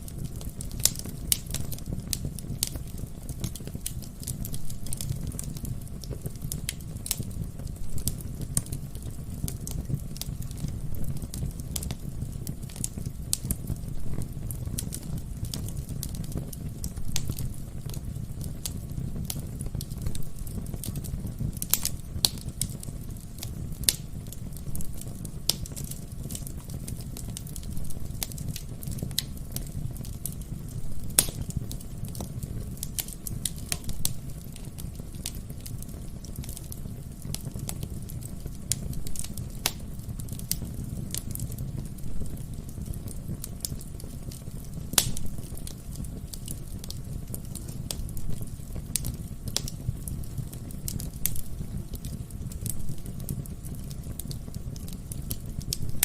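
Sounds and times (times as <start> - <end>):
burning logs crackling and popping: 0.0 - 56.0
fire flames rumbling: 0.0 - 56.0.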